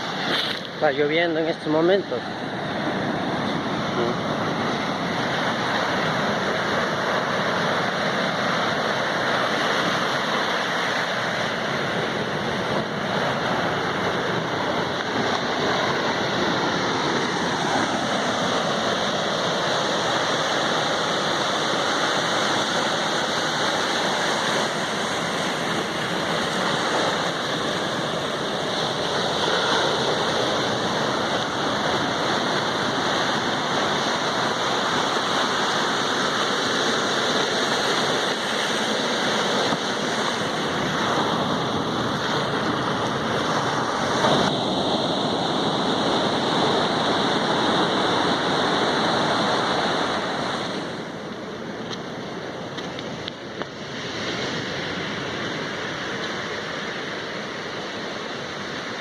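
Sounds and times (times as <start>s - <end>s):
ocean surf: 0.0s - 59.0s
steady rain: 0.0s - 59.0s.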